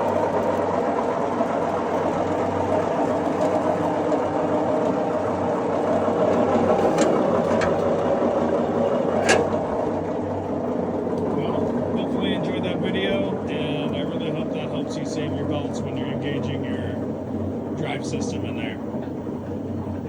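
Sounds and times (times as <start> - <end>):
wood chipper engine running: 0.0 - 20.0.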